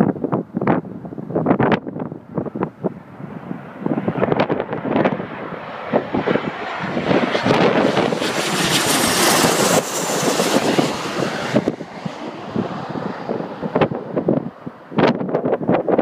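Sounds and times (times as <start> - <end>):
wind buffeting microphone: 0.0 - 16.0
jet airliner passing overhead: 2.3 - 16.0.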